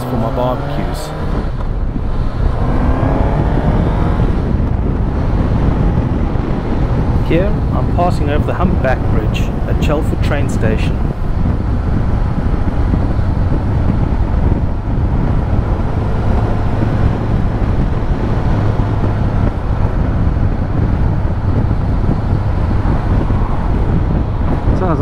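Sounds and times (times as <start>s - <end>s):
motorcycle engine hum: 0.0s - 25.0s
wind rushing over microphone: 0.0s - 25.0s.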